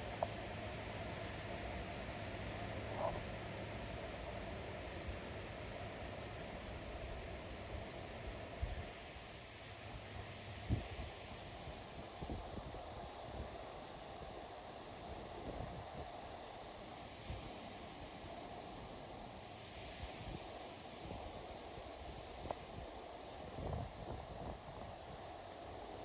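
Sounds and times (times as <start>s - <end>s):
crickets chirring: 0.0s - 26.0s
wind through trees: 0.0s - 26.0s.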